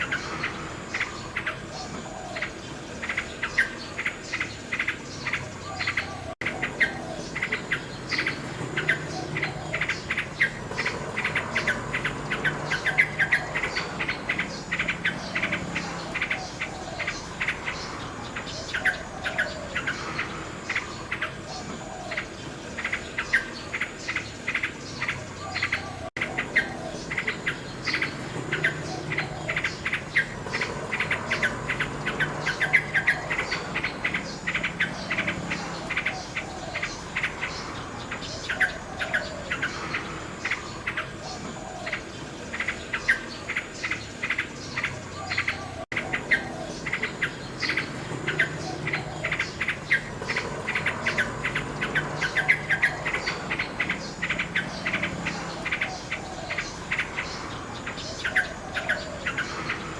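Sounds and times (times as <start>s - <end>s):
dense chirping: 0.0s - 59.9s
nightingale singing: 0.0s - 59.9s.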